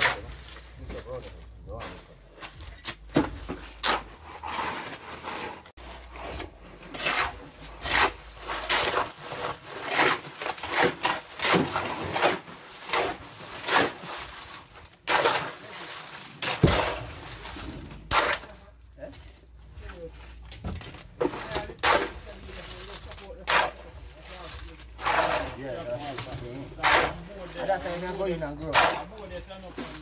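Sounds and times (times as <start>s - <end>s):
shovels scraping wet concrete: 0.0s - 30.0s.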